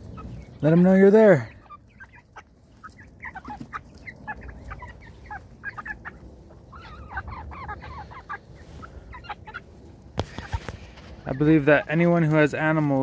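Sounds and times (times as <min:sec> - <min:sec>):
poultry clucking and chirping: 0:00.0 - 0:13.0.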